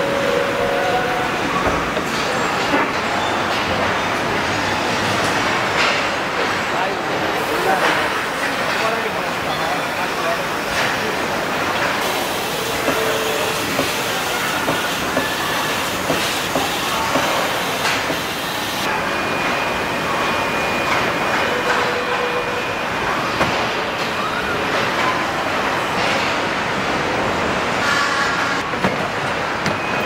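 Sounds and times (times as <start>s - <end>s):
assembly line machinery din: 0.0s - 27.8s.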